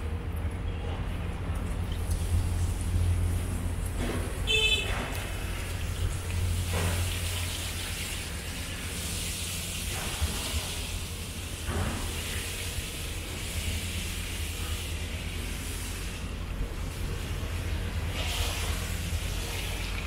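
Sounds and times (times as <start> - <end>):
vehicles passing with tyre swish: 0.0 - 20.0.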